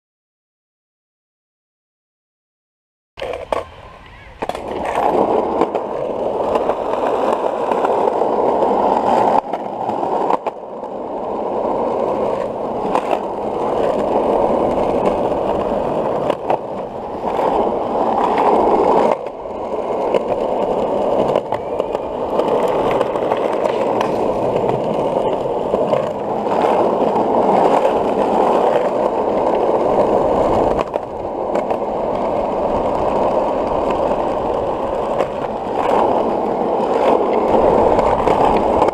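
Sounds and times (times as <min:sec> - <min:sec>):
skateboard wheels rolling on concrete: 0:03.2 - 0:38.9.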